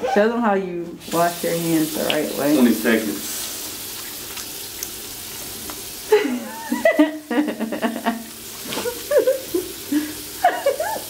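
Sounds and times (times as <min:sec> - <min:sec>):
hands washing under water: 0:01.0 - 0:11.0.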